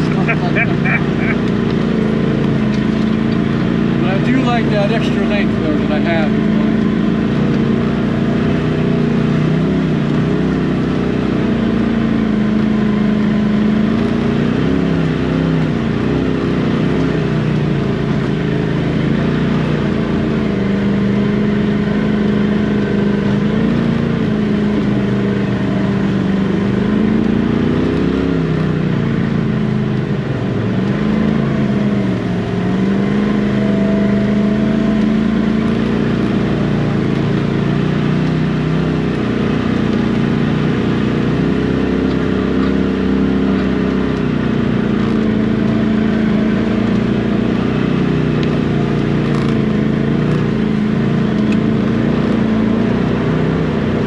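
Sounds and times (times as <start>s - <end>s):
engine running under load: 0.0s - 54.0s.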